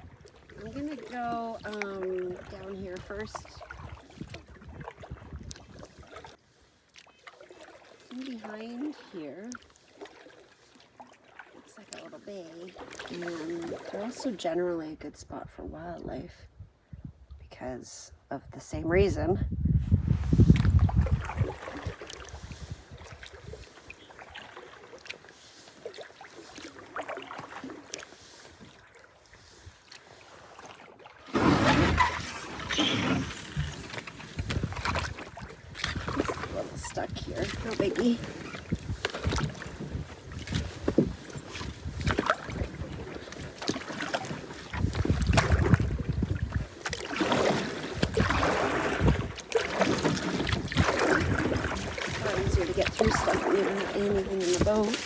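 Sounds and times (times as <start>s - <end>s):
canoe hull scraping aground: 0.0s - 14.6s, 19.9s - 55.0s
quiet paddling: 0.0s - 16.3s, 19.9s - 55.0s.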